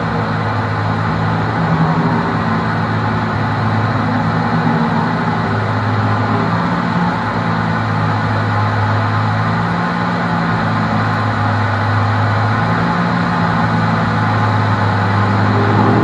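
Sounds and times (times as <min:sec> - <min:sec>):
race car engine running: 0:00.0 - 0:16.0
road and wind noise: 0:00.0 - 0:16.0.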